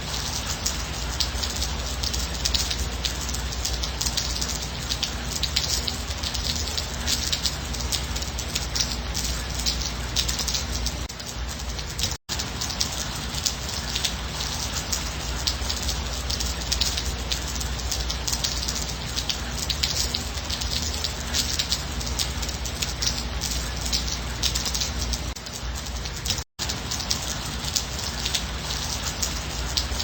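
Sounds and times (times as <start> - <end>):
light rain falling: 0.0 - 30.0.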